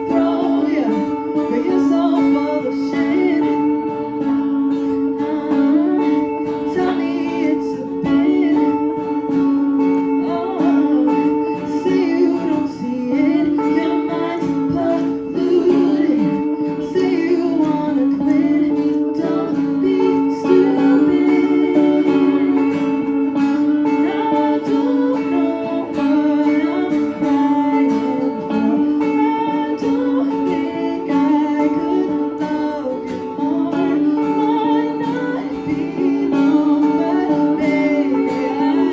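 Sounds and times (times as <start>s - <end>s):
person singing: 0.0s - 38.9s
plucked acoustic guitar: 0.0s - 38.9s
steady held notes: 0.0s - 38.9s.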